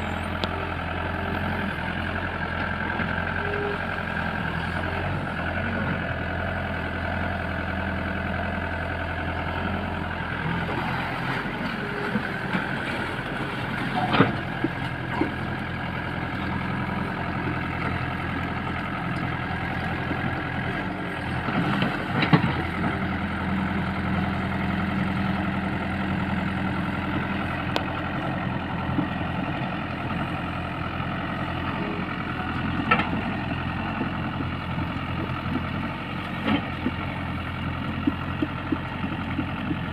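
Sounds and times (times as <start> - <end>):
heavy machinery diesel engines: 0.0 - 39.9.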